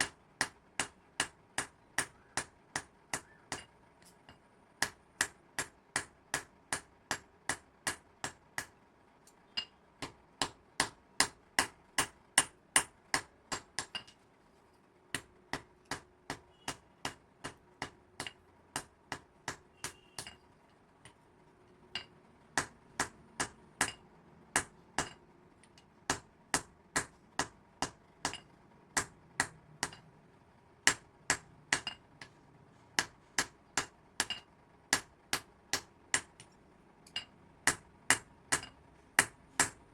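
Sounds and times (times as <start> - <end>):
hammer striking metal on anvil: 0.0 - 8.7, 9.5 - 14.2, 15.2 - 20.4, 21.9 - 25.2, 25.8 - 30.1, 30.9 - 32.3, 33.0 - 36.5, 37.1 - 39.8.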